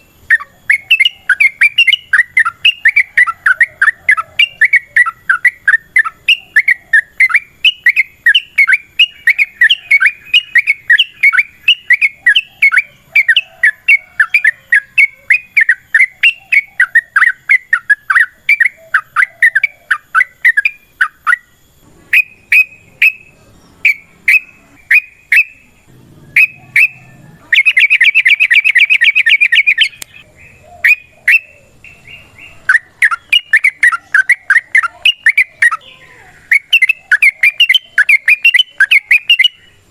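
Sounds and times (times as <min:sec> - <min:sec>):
bird rapid trill: 0:00.0 - 0:39.9
bird singing chattering notes: 0:00.0 - 0:39.9.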